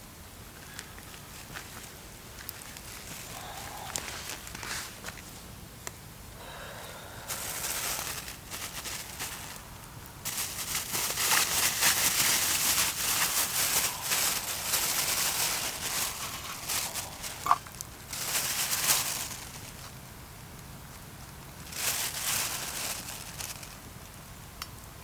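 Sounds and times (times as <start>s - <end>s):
dry crackling and rustling: 0.6s - 5.6s, 6.4s - 24.9s.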